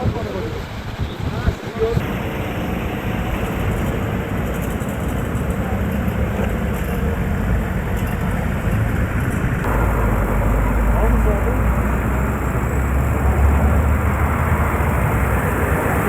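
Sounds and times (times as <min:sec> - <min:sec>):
traffic rumble: 0:02.0 - 0:16.0.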